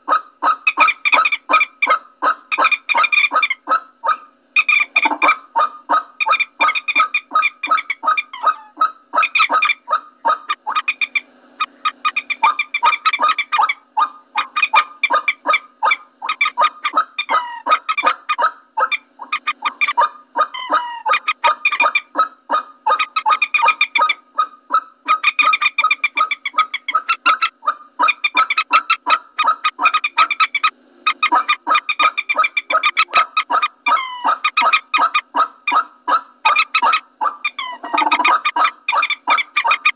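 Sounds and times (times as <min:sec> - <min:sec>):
moorhen rapid clucking: 0:00.0 - 0:39.9
moorhen gliding calls: 0:00.1 - 0:39.9.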